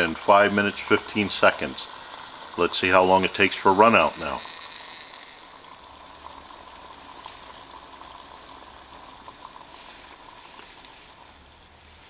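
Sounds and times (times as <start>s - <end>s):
water boiling in pot: 0.0s - 12.0s.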